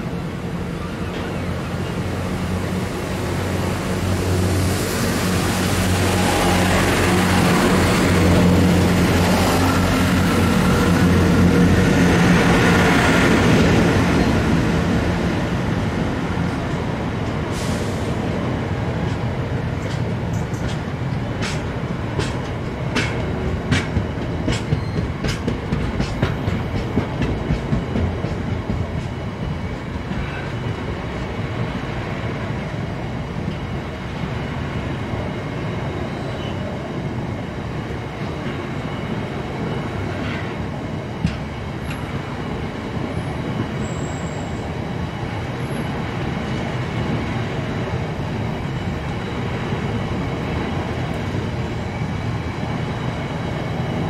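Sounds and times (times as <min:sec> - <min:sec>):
train rumble on rails: 0:00.0 - 0:54.0.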